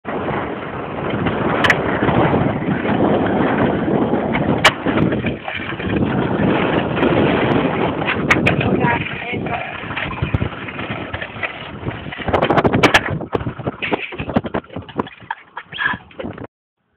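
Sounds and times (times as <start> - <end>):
skateboard wheels rolling on asphalt: 0.1 - 16.5
skateboard clacks: 1.0 - 16.5.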